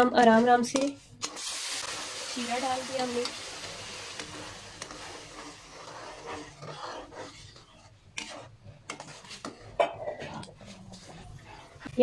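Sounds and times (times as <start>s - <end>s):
metal spoon scraping pan: 0.3s - 12.0s
syrup sizzling and bubbling: 1.1s - 12.0s.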